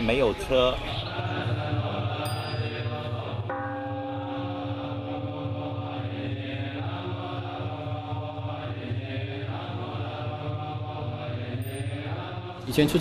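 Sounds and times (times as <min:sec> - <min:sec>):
chanting long held notes: 0:00.7 - 0:13.0.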